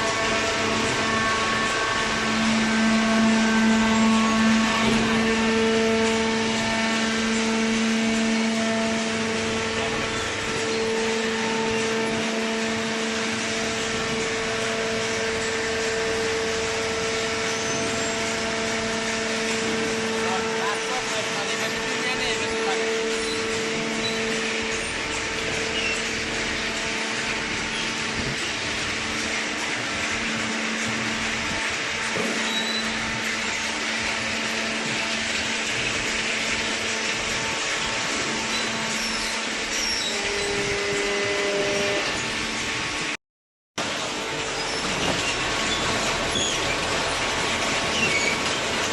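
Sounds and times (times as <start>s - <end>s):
baler machine humming: 0.0s - 42.7s.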